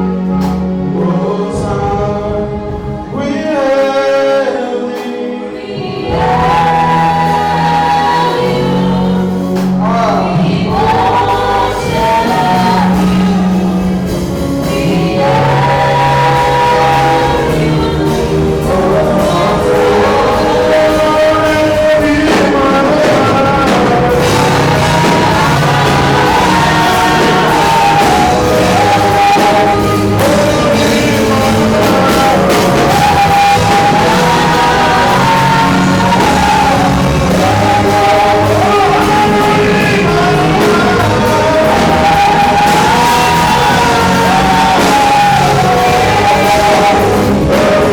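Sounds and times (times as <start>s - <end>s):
band with bass and drums: 0.0s - 4.3s, 5.8s - 47.9s
gospel choir singing: 0.0s - 47.9s.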